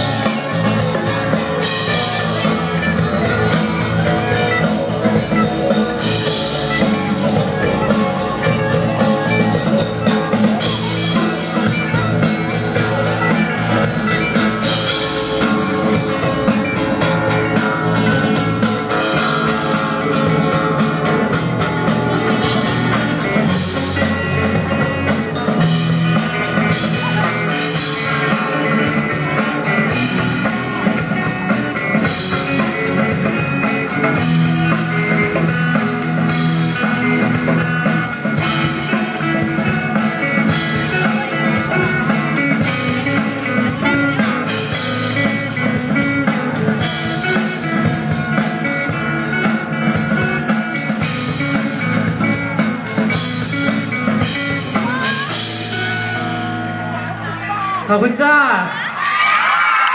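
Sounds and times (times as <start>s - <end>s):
drum kit: 0.0s - 57.4s
electric guitars: 0.0s - 57.9s.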